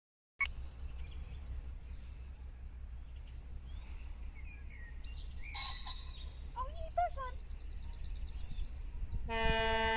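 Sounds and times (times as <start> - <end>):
low outdoor rumble: 0.5 - 9.9.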